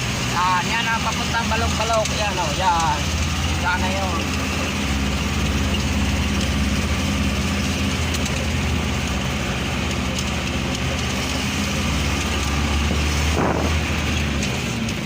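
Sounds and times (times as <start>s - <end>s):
road noise: 0.0s - 15.0s
vehicle engine humming: 0.0s - 15.0s.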